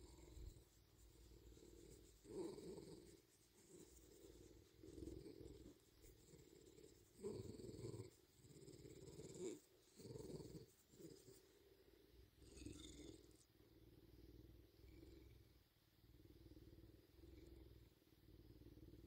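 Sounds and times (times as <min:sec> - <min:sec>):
bobcat purring: 0:00.0 - 0:19.0.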